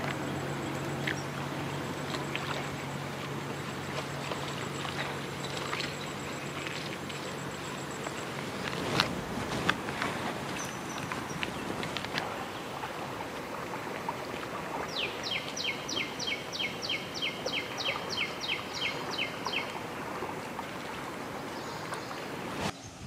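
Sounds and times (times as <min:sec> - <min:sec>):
person wading through pond water: 0:00.0 - 0:22.7.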